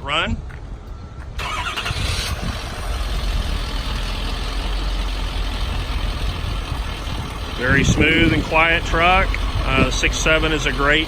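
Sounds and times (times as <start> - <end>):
diesel engine starting and idling: 1.4 - 11.0.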